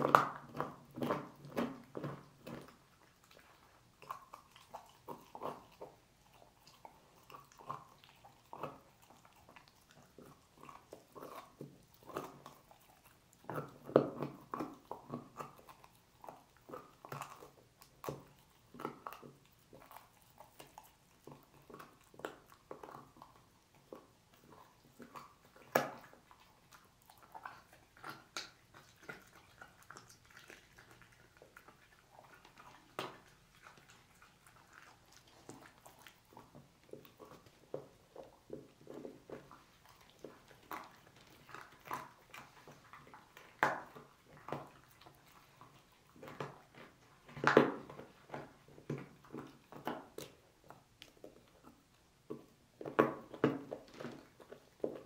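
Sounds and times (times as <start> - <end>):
dog chewing bones: 0.0 - 55.0.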